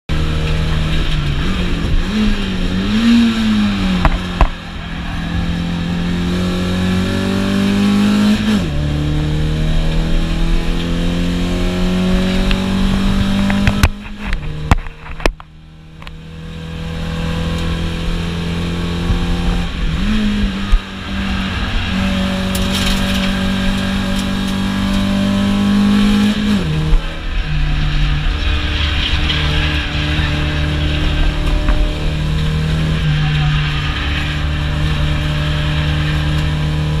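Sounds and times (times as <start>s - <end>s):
car engine accelerating: 0.1s - 37.0s.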